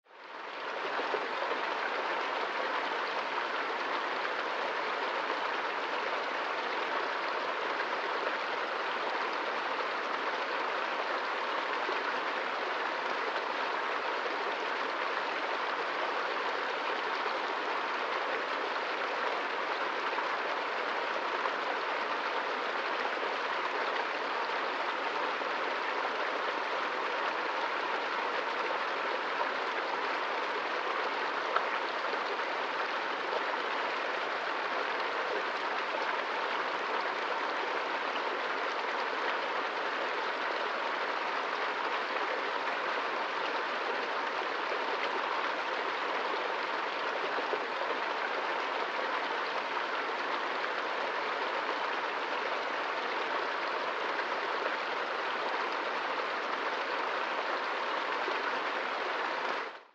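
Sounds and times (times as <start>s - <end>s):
stream water rushing: 0.1s - 59.9s.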